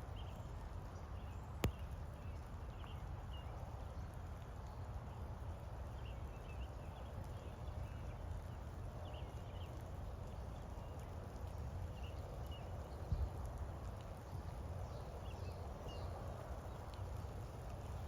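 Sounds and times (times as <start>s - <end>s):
steady rain: 0.0s - 18.0s
wind rumble on microphone: 0.0s - 18.0s.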